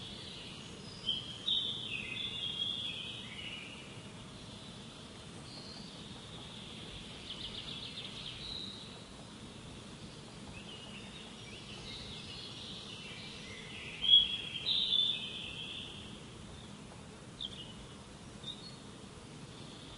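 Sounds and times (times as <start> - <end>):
birds chirping and singing: 0.0 - 16.8, 17.4 - 18.9
outdoor hiss: 0.0 - 19.9.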